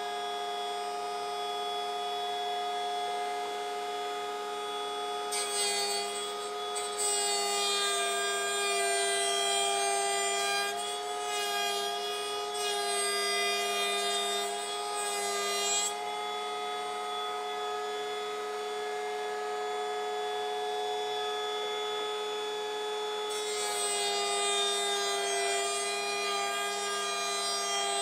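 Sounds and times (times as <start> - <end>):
electric planer whining: 0.0 - 28.0.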